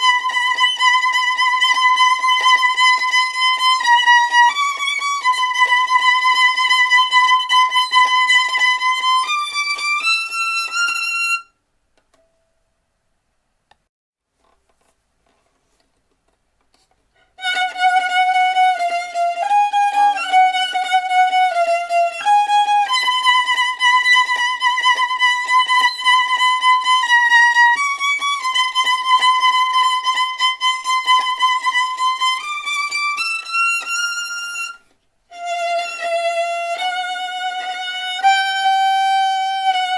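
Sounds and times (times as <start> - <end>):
solo violin long notes: 0.0 - 11.5, 17.3 - 39.9.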